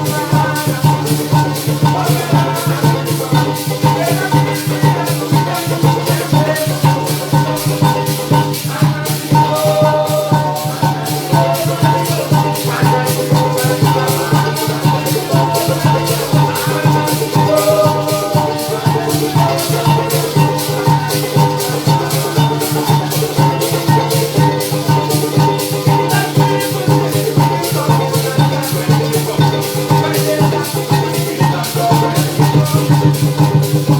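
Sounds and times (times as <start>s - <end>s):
maracas shaking: 0.0s - 33.9s
steady bass: 0.0s - 33.9s.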